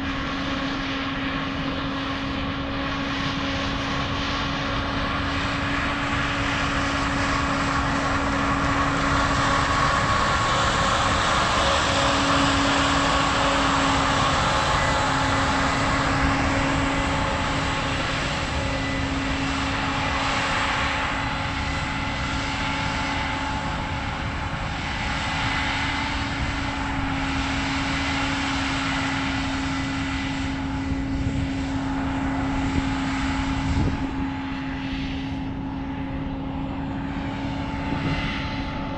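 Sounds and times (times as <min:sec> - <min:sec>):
large engine running: 0:00.0 - 0:38.9.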